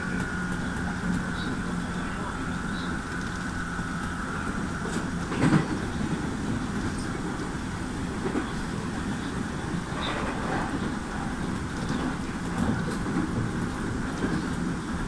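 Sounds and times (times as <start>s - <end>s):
electric train running rumble: 0.0s - 15.0s.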